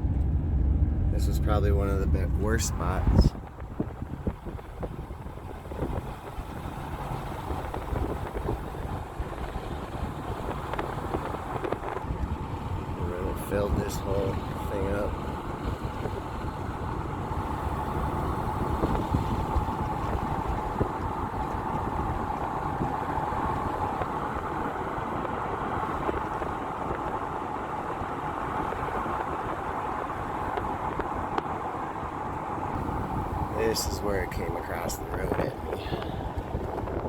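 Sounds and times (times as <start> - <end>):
car road and engine noise: 0.0 - 37.0.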